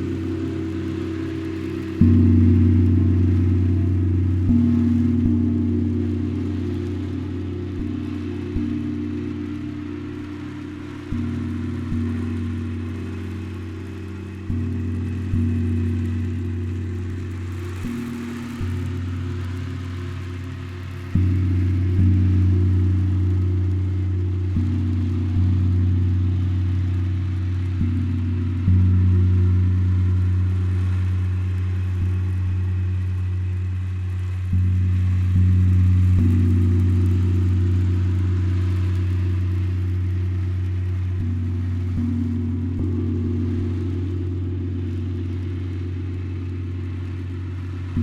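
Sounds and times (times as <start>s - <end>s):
deep gong strikes: 0.0s - 48.0s.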